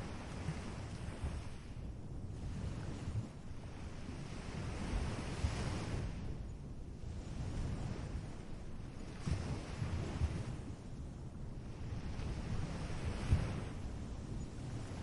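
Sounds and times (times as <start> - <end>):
ocean surf washing on beach: 0.0 - 6.4, 7.0 - 15.0
wind rumble on microphone: 0.0 - 15.0.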